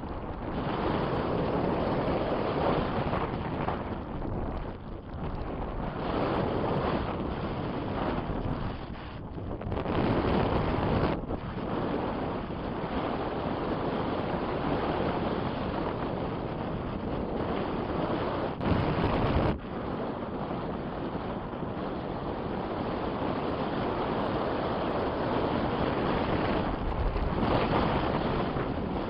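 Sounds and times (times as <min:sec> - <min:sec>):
strong wind on microphone: 0:00.0 - 0:29.0.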